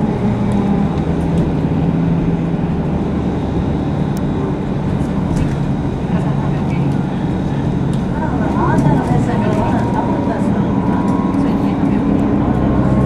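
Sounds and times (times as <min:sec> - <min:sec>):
bus engine drone: 0:00.0 - 0:13.0
road noise: 0:00.0 - 0:13.0.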